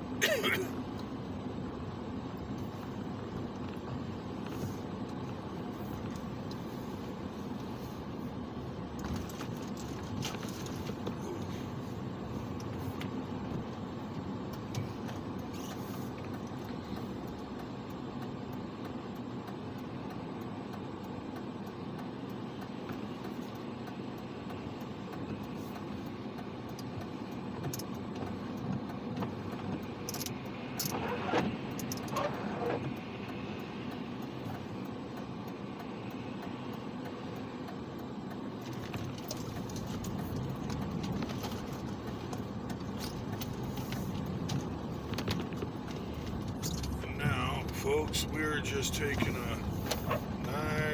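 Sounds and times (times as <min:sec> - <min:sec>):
car road and engine noise: 0:00.0 - 0:50.9.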